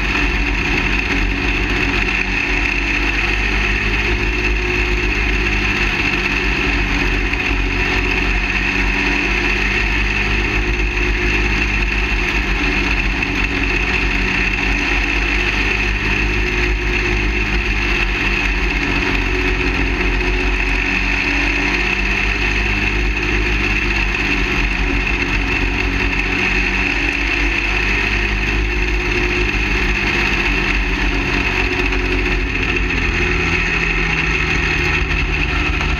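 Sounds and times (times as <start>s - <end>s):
go-kart engine running: 0.0s - 35.9s.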